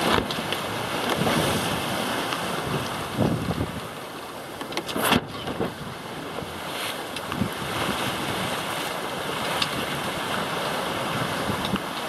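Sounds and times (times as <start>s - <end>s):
wind buffeting microphone: 0.0s - 4.0s, 5.0s - 12.0s
water rushing along hull: 0.0s - 12.0s.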